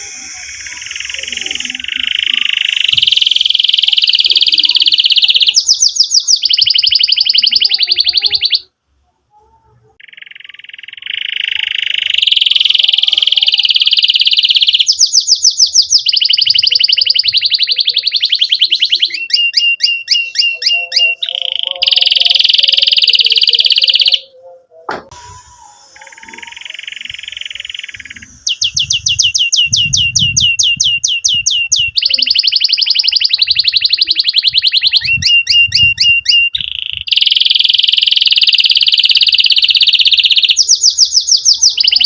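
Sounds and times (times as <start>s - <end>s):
canary singing: 0.0s - 42.0s.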